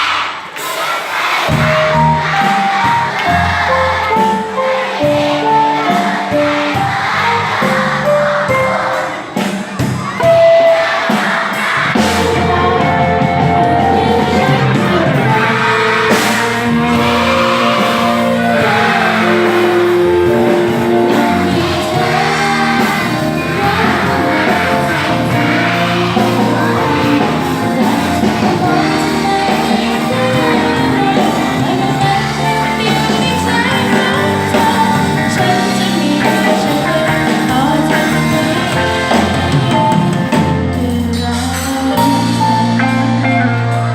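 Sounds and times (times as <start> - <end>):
song with singing voices: 0.0 - 43.9.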